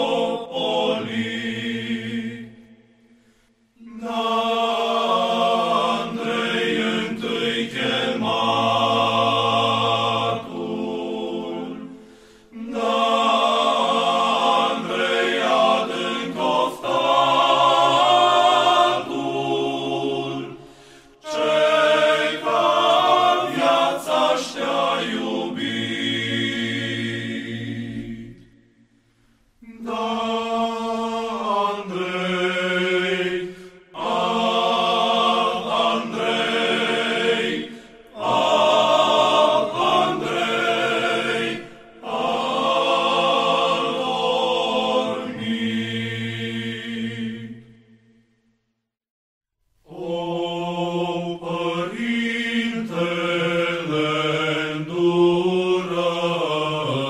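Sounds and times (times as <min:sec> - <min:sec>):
choir singing chant: 0:00.0 - 0:29.0, 0:29.6 - 0:48.6, 0:49.8 - 0:57.0.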